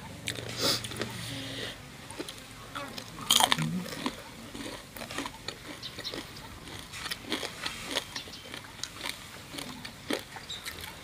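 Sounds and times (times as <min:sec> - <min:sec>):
people chewing crunchy food: 0:00.0 - 0:11.0.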